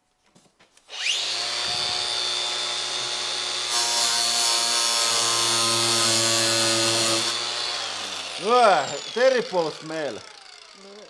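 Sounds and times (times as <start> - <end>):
angle grinder whine: 0.9 - 11.0
disc grinding styrofoam: 1.6 - 11.0.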